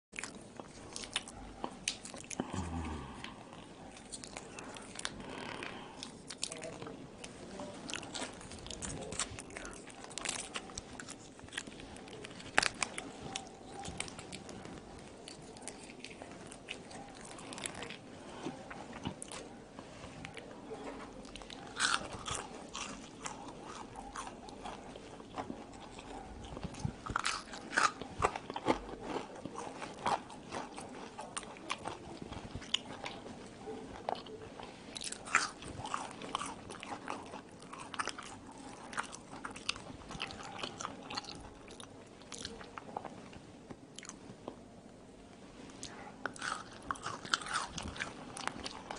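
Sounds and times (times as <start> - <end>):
chewing crunchy fries: 0.1 - 44.7, 45.7 - 48.9.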